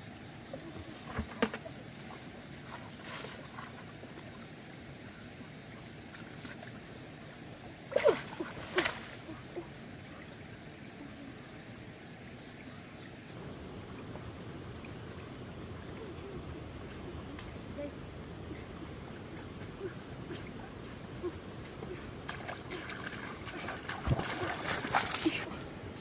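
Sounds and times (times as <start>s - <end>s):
steady background hiss: 0.0s - 26.0s
water splashing and sloshing: 0.4s - 11.3s, 13.4s - 26.0s.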